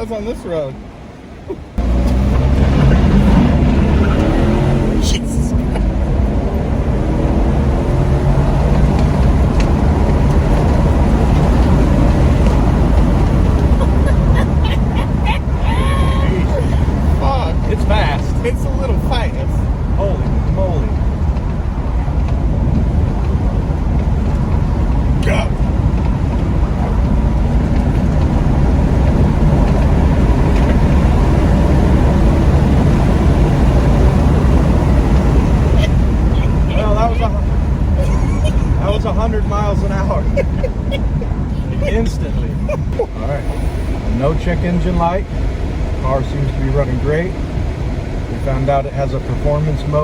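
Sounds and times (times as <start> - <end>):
car engine pulling hard: 0.0 - 50.0
road and wind noise: 0.0 - 50.0.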